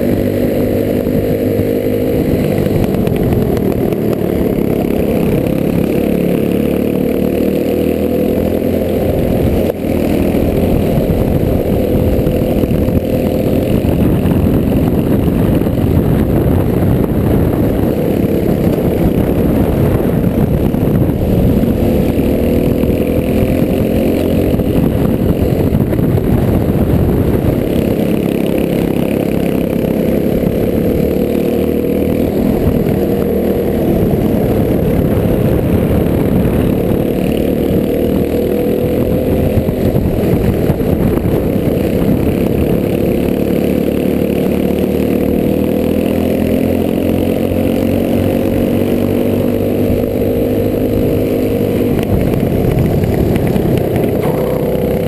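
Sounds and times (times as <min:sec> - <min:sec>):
kart engine running hard: 0:00.0 - 0:55.0.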